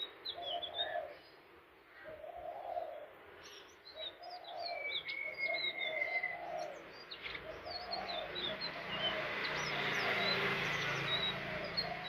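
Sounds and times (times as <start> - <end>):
bird chirps and twitters: 0.0 - 1.4, 2.0 - 12.0.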